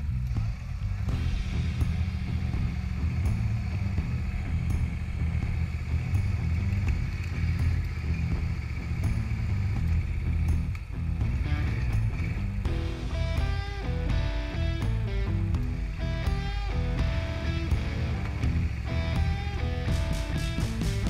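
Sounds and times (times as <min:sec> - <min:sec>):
quad engine rumbling: 0:00.0 - 0:21.0.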